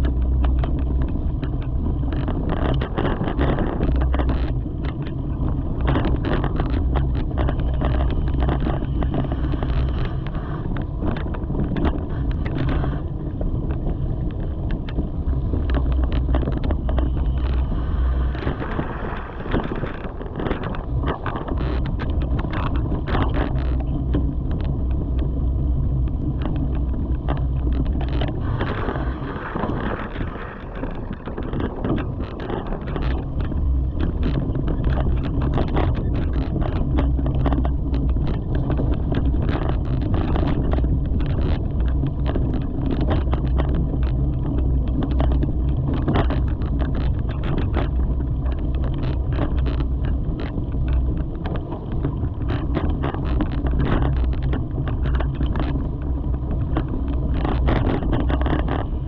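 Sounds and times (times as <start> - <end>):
bike rattling over bumps: 0.0 - 59.0
wind rumble on microphone: 0.0 - 59.0.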